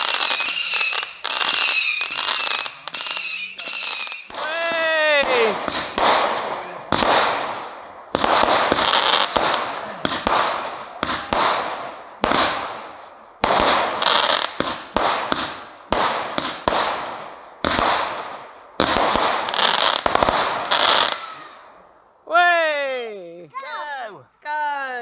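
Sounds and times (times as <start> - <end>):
fireworks banging: 0.0 - 21.3.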